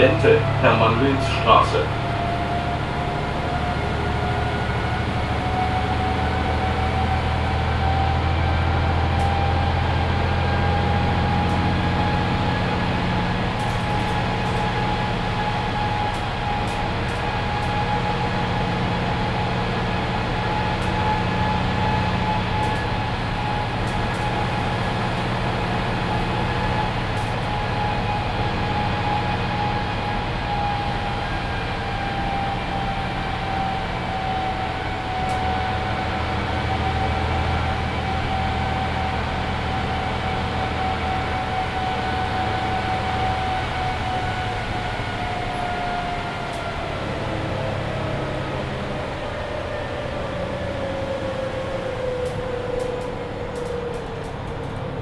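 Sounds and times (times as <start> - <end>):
bus diesel engine rumble: 0.0 - 55.0
bus motor whine: 0.0 - 55.0.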